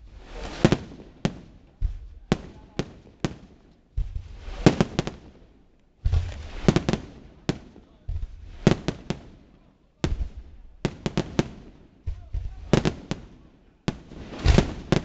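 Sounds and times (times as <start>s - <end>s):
firework crackling: 0.0s - 15.0s
firework shells booming: 0.6s - 15.0s.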